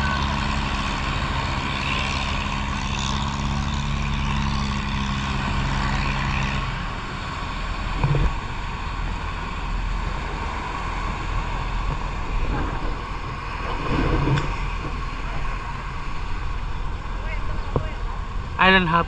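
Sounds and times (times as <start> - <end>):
boat engine humming: 0.0 - 19.0
constant rushing noise: 0.0 - 19.0.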